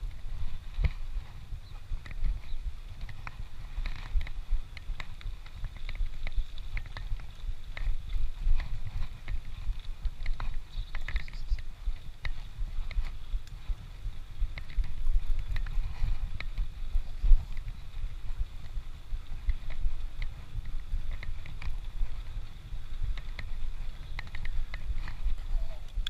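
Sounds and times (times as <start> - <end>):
light ticks and clicks: 0.0 - 26.0
wind buffeting microphone: 0.0 - 26.0.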